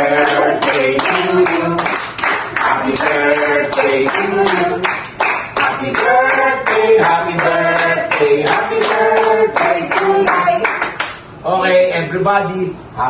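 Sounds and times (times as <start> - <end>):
group singing a celebration song: 0.0 - 11.1
hands clapping to a beat: 0.0 - 11.2.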